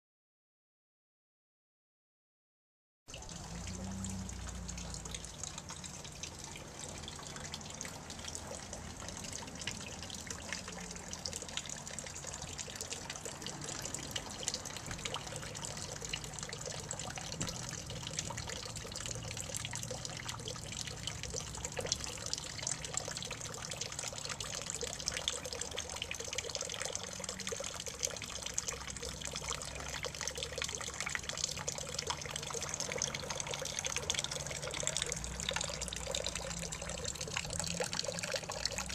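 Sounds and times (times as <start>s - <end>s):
water drips and splashes: 3.1s - 38.9s
water fountain trickling: 3.1s - 38.9s.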